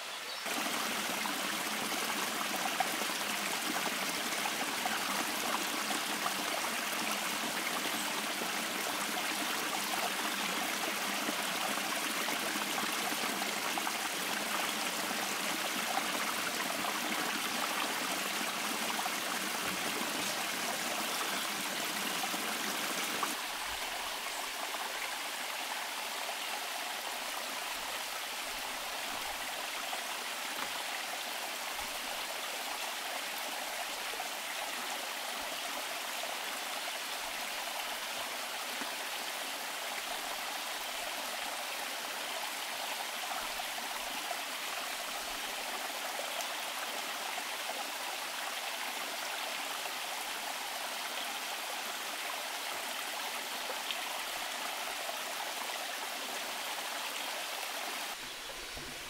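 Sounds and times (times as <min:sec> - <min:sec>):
stream rushing over boulders: 0:00.0 - 0:59.0.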